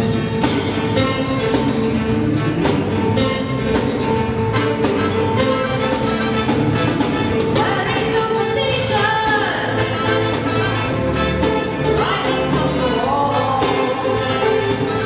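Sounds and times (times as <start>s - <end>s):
bass guitar: 0.0s - 15.0s
drum kit: 0.0s - 15.0s
electric guitar: 0.0s - 15.0s
keyboards: 0.0s - 15.0s.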